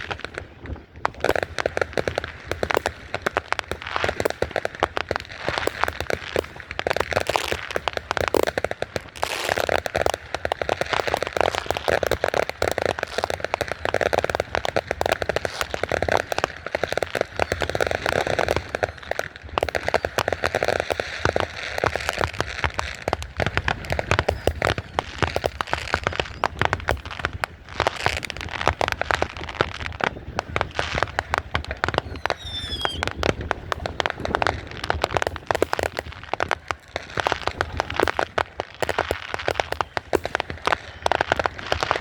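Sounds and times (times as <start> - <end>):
fireworks cracking: 0.0 - 42.0.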